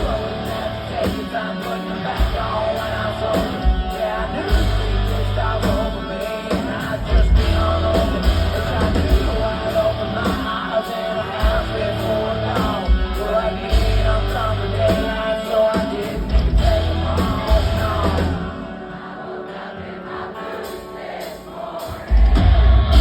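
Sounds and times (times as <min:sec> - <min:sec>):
live rock band playing: 0:00.0 - 0:19.0, 0:20.4 - 0:23.0
person singing: 0:00.0 - 0:21.0.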